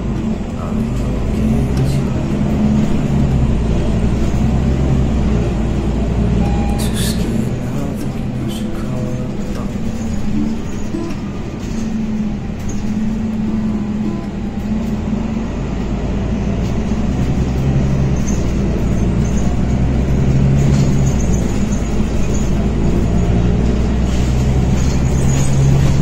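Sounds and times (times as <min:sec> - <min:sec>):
vehicle rumble and hum: 0:00.0 - 0:26.0.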